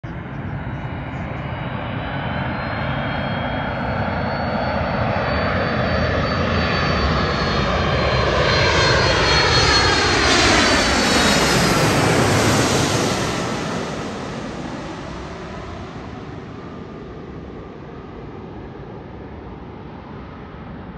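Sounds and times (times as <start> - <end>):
jet plane passing overhead: 0.0 - 20.9.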